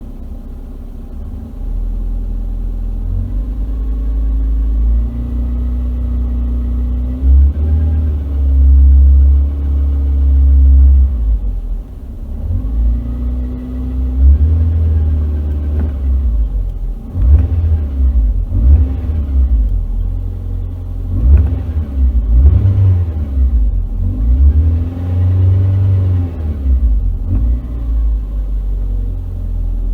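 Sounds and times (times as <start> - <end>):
car engine revving: 2.9 - 29.9.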